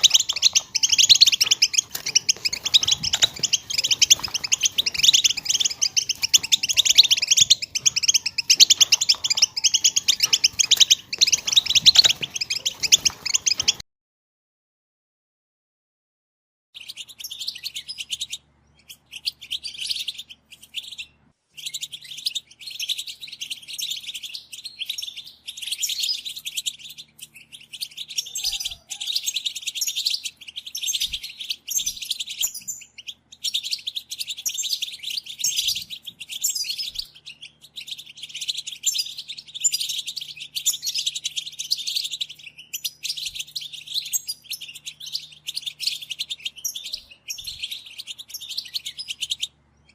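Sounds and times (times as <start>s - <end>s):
finches twittering: 0.0s - 13.8s, 16.8s - 49.9s.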